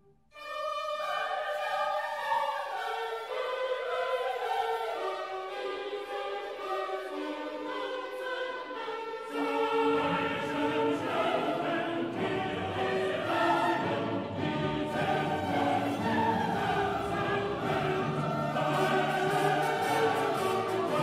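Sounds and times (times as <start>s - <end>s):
choir singing long held notes: 0.3s - 21.0s.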